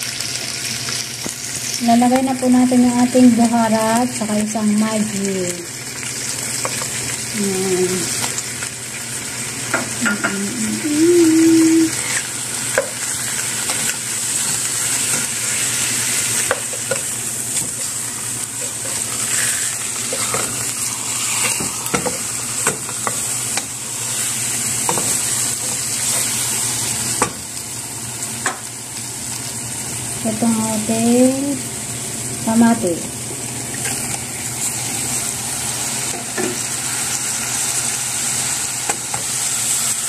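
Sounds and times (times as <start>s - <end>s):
chicken sizzling in oil: 0.0s - 40.0s.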